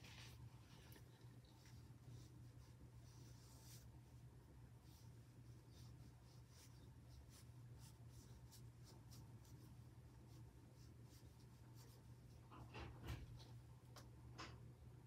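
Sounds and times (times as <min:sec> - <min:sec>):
ink brush strokes on paper: 0:00.0 - 0:12.6
faint low hum: 0:00.0 - 0:15.0.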